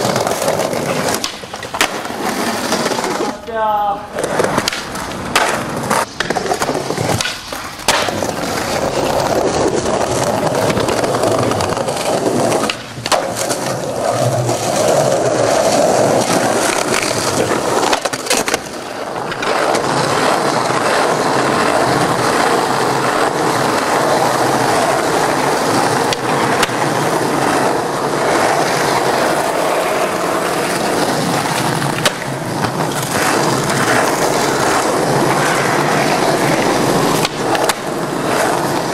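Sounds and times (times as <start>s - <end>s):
skateboard knocking and clacking: 0.0s - 3.4s, 4.1s - 38.9s
skateboard wheels rolling on asphalt: 0.0s - 38.9s.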